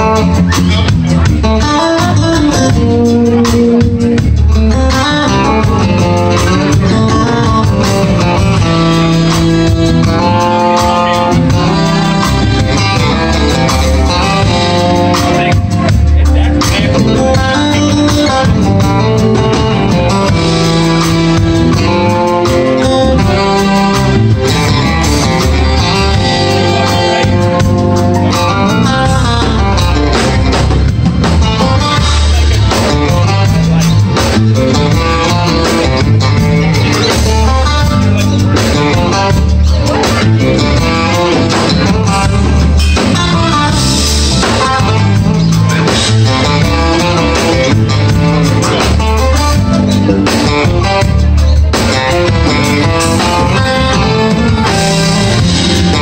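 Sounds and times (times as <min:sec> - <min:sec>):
electric guitar: 0:00.0 - 0:56.0
live rock band playing: 0:00.0 - 0:56.0.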